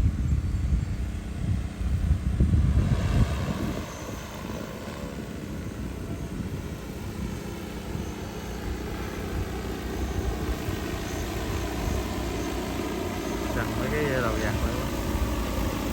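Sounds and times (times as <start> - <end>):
drone rotors humming: 0.0 - 15.9.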